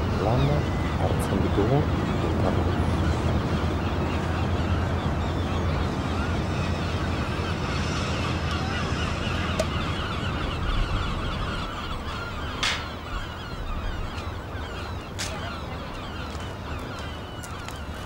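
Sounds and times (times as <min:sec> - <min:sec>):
many birds chattering: 0:00.0 - 0:18.0.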